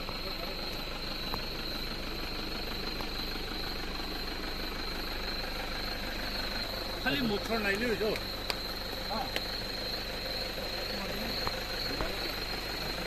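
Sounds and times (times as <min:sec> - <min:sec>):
engine-like hum: 0:00.0 - 0:13.0.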